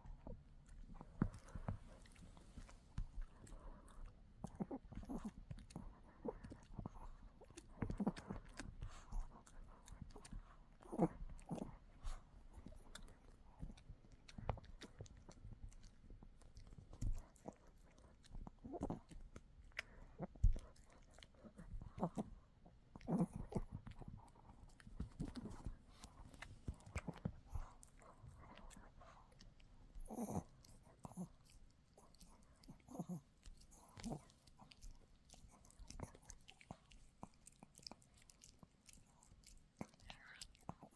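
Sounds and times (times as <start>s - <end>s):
dog chewing hard chew: 0.0s - 40.9s.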